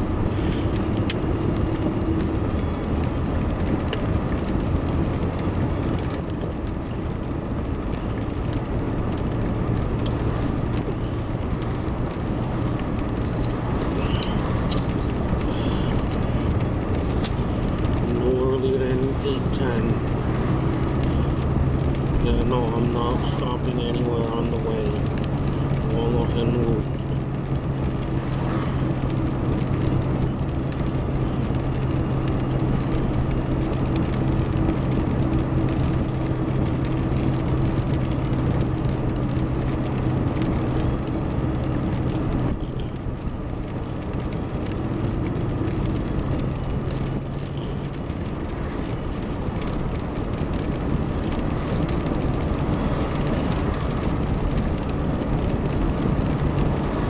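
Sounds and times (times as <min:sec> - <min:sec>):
car engine hum: 0:00.0 - 0:57.0
tyre noise on wet road: 0:00.0 - 0:57.0.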